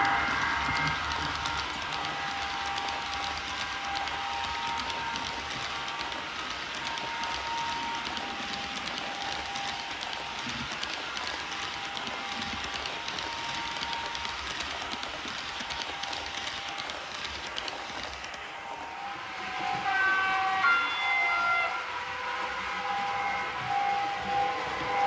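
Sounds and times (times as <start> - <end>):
faint motor whine: 0.0 - 25.0
model train wheels rolling on track: 0.0 - 25.0.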